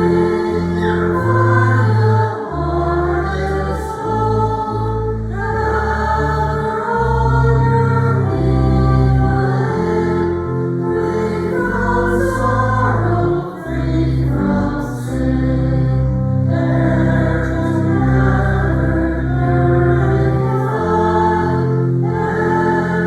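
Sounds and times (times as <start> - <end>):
choir singing a hymn: 0.0 - 23.0.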